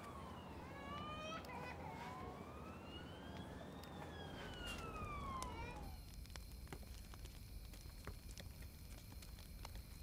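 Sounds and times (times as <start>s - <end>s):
faint wailing siren: 0.0s - 10.0s.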